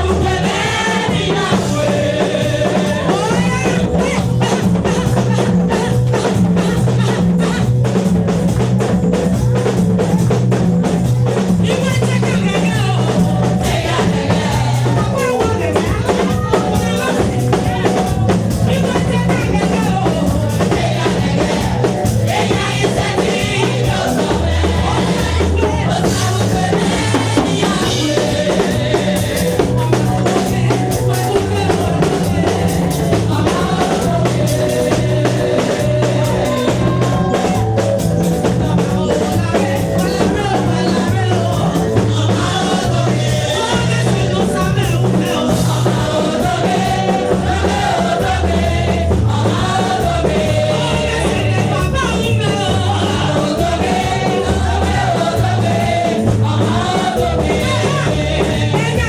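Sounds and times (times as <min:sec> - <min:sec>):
choir singing: 0:00.0 - 0:07.8, 0:12.6 - 0:59.0
bass line: 0:00.0 - 0:59.0
drum kit beat: 0:00.0 - 0:59.0.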